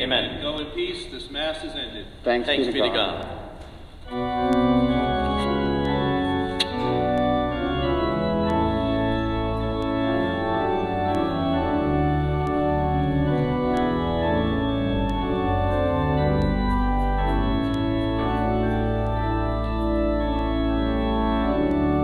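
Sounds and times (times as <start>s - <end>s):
church organ playing chords: 4.0s - 22.0s.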